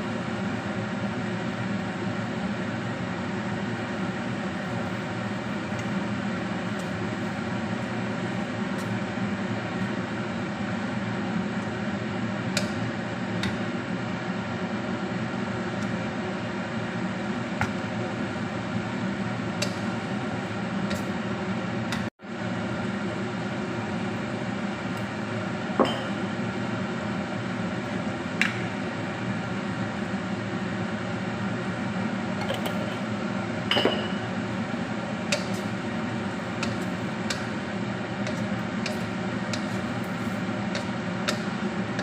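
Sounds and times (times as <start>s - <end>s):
motor or fan humming: 0.0s - 42.0s.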